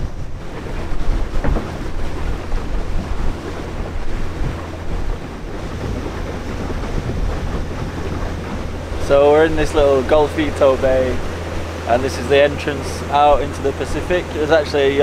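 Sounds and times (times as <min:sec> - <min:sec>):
motorboat engine hum: 0:00.0 - 0:15.0
water rushing along hull: 0:00.0 - 0:15.0
wind buffeting microphone: 0:00.0 - 0:15.0.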